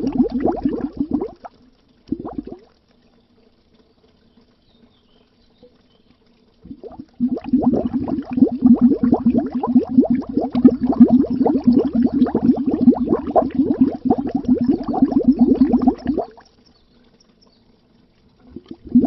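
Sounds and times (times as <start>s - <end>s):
underwater bubbles gurgling: 0.0s - 4.2s, 5.7s - 19.0s.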